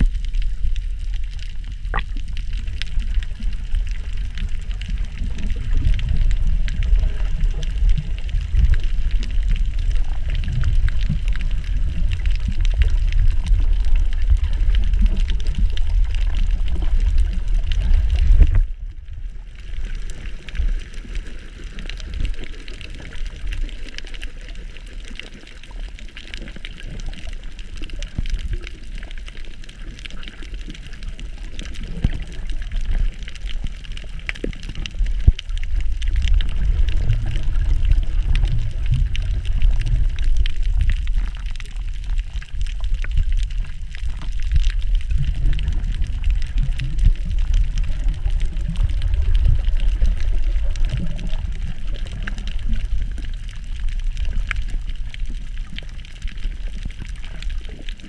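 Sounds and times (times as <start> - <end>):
faint crackling underwater: 0.0 - 58.0
muffled underwater rumble: 0.0 - 58.0.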